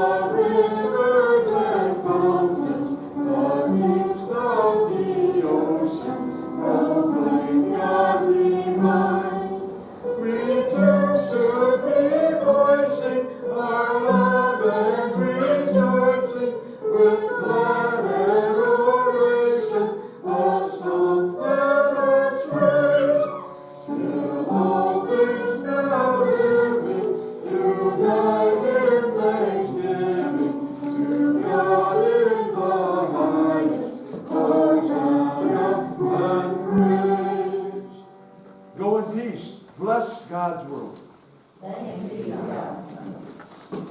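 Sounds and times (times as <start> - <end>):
group singing a hymn: 0.0 - 39.3, 41.6 - 43.3.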